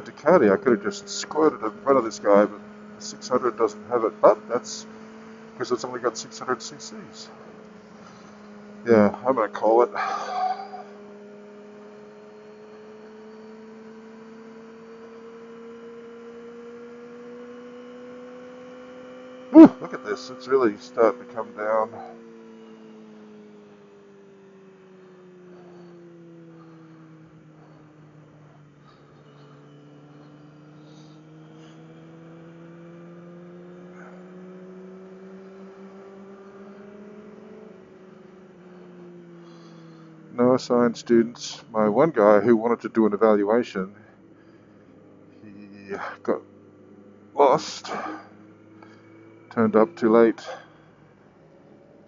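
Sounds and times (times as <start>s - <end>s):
muffled motorcycle engine droning: 0.0s - 52.0s.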